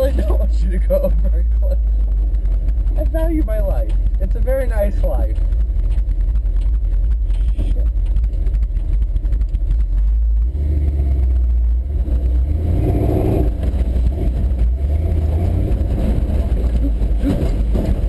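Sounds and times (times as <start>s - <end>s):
cab knocking and rattling: 0.0s - 10.4s, 13.5s - 18.0s
truck engine droning: 0.0s - 18.0s.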